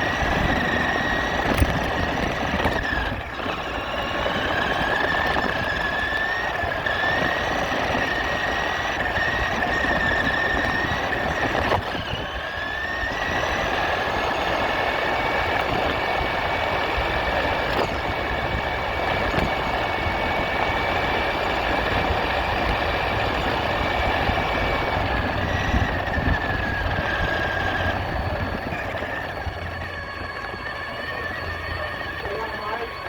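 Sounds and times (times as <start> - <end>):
rc truck motor whine: 0.0 - 33.0.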